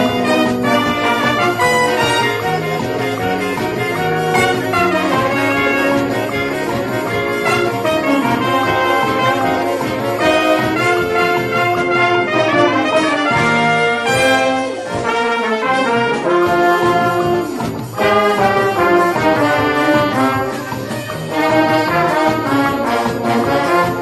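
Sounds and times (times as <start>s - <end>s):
orchestra with brass melody: 0.0s - 24.0s.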